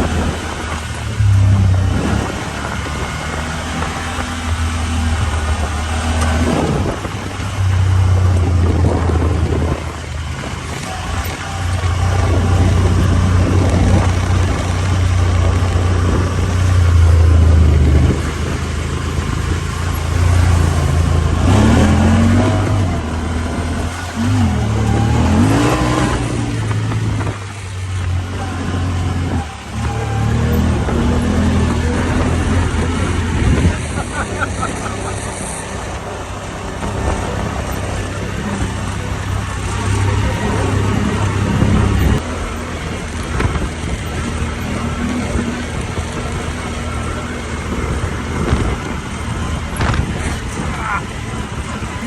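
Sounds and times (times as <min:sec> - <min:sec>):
engine revving while driving: 0:00.0 - 0:52.0.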